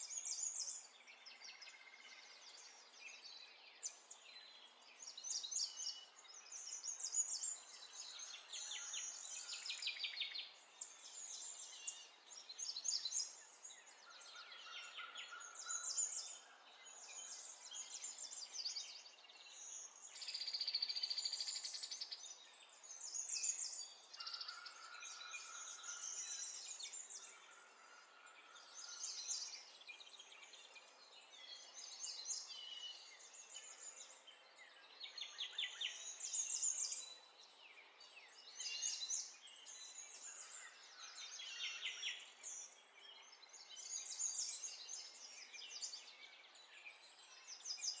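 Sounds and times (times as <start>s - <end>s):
small birds chirping and trilling: 0.0s - 48.0s.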